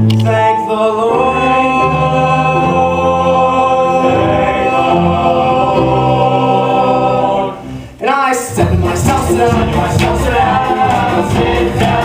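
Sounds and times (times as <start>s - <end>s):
choir singing held chords: 0.1s - 12.0s.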